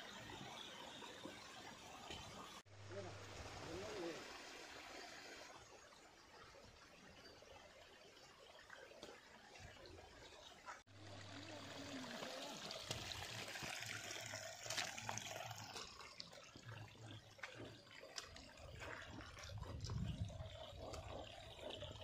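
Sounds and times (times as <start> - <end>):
rainwater trickling over rocks: 0.1 - 22.0.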